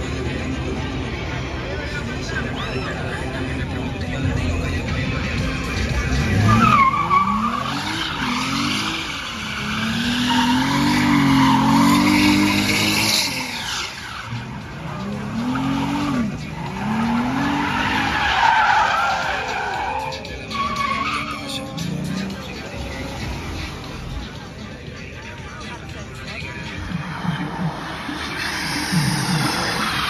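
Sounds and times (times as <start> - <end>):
tyres squealing on pavement: 2.2 - 30.0
car engine revving: 4.2 - 30.0.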